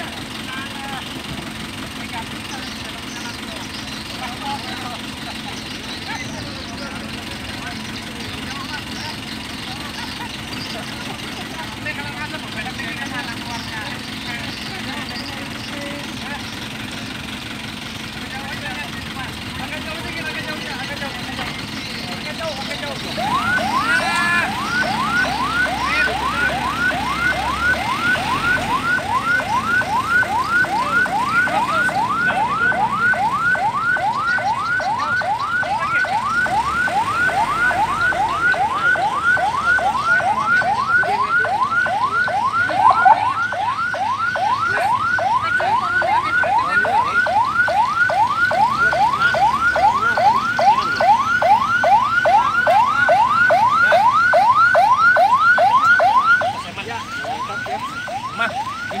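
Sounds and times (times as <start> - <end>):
ambulance siren yelping: 0.0 - 59.0.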